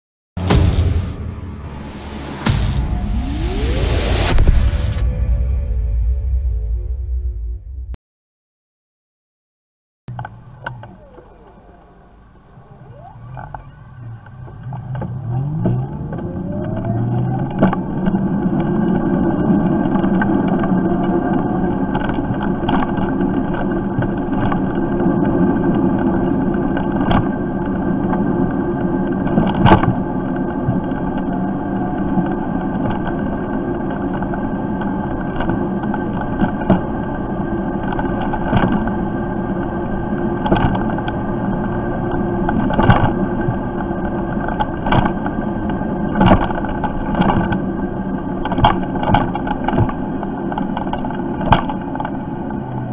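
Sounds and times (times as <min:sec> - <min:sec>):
electric moped whine: 0:10.1 - 0:52.9
road and wind noise: 0:10.1 - 0:52.9.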